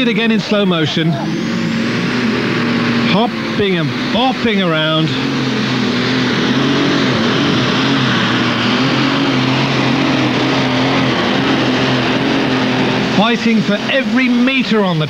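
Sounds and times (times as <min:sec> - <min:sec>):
rushing noise: 0:00.0 - 0:15.0
tractor engine at full throttle: 0:00.0 - 0:15.0.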